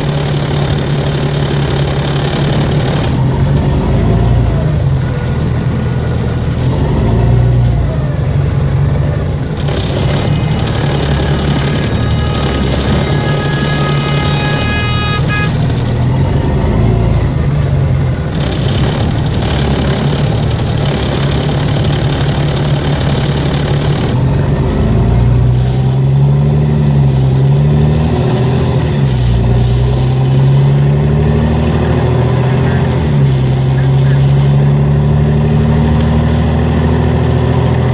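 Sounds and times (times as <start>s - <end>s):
bus diesel engine wavering: 0.0s - 37.9s.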